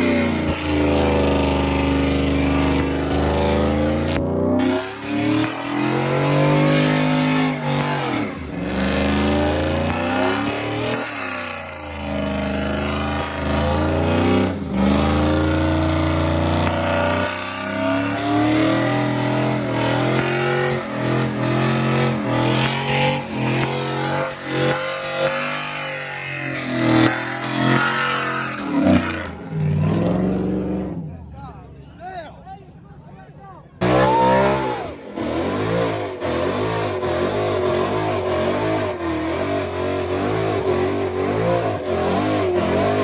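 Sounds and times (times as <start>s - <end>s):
car engine revving: 0.0s - 31.6s, 33.8s - 43.0s.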